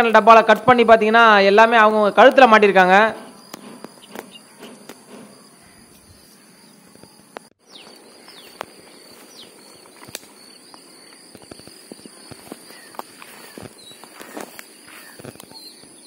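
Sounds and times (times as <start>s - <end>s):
falling bird chirps: 1.7s - 16.0s
high-pitched insect drone: 3.1s - 16.0s.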